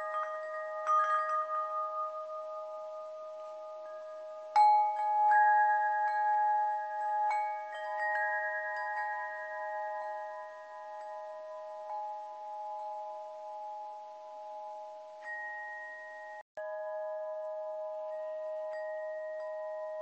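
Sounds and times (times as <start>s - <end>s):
bell-like chimes ringing: 0.0s - 20.0s.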